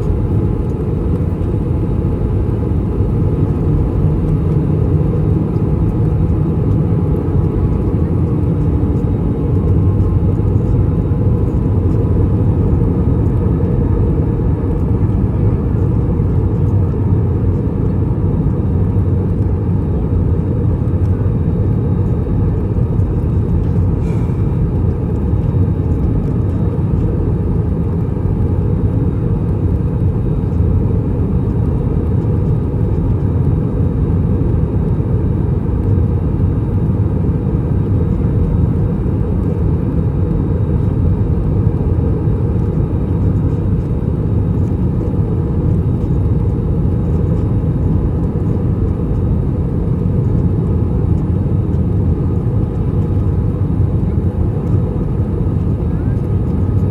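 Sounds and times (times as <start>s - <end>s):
airplane cabin rumble: 0.0s - 56.9s.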